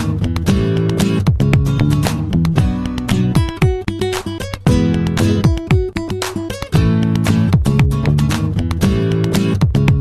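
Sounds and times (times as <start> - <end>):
strummed guitar: 0.0 - 10.0.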